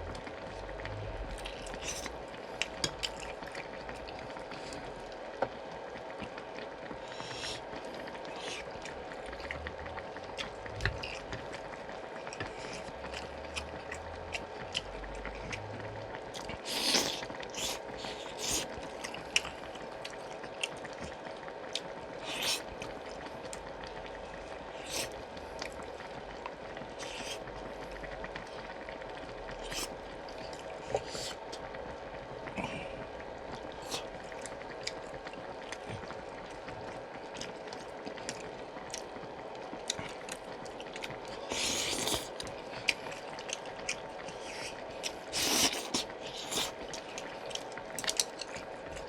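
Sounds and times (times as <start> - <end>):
faint steady hum: 0.0 - 49.0
person chewing and slurping soup: 0.0 - 49.0.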